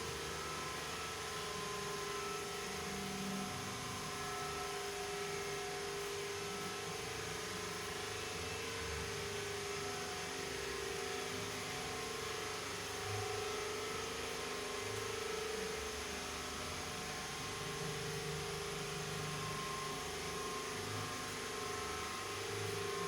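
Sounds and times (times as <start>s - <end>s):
faint wavering whine: 0.0s - 23.0s.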